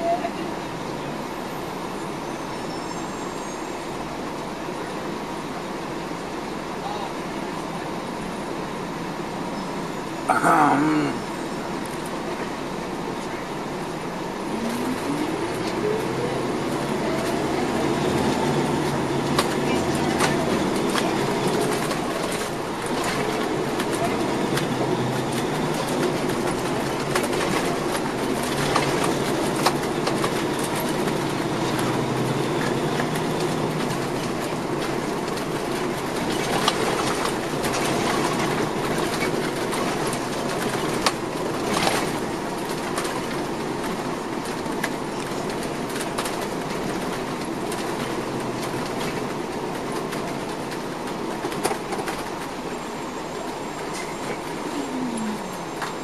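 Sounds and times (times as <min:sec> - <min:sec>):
diesel engine and road rumble: 0:00.0 - 0:56.0.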